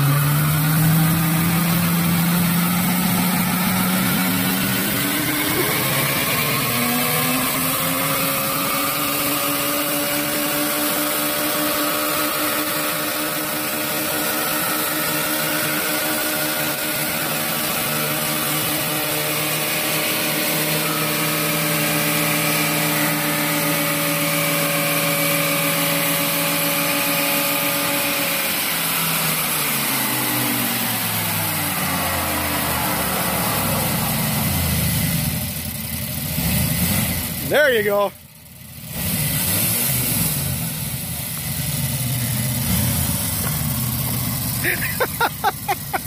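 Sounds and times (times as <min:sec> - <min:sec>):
tyre spinning in burnout: 0:00.0 - 0:35.4, 0:42.5 - 0:46.0
car engine revving high: 0:00.0 - 0:37.9, 0:38.7 - 0:46.0.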